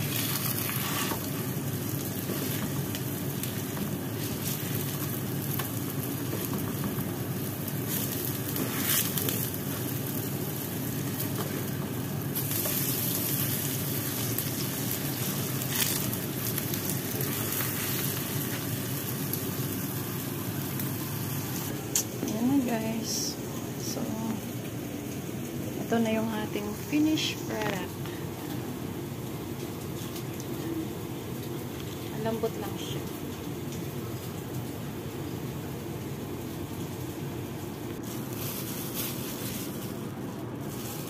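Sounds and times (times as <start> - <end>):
patties sizzling in oil: 0.0 - 41.0.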